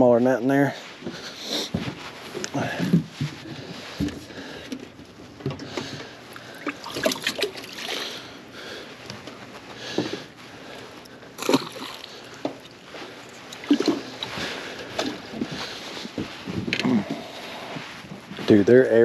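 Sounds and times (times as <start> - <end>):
water sloshing and splashing: 1.8 - 8.7, 9.9 - 18.4.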